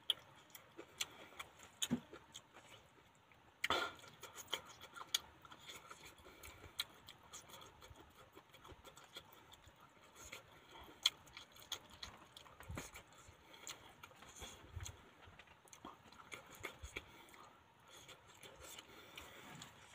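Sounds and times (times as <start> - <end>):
chewing and lip-smacking: 0.0 - 19.9.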